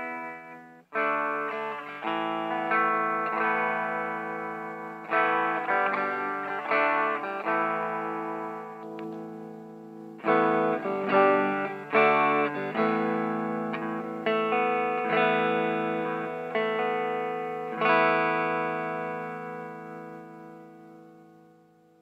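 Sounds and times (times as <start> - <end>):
clean electric guitar chords: 0.0 - 22.0.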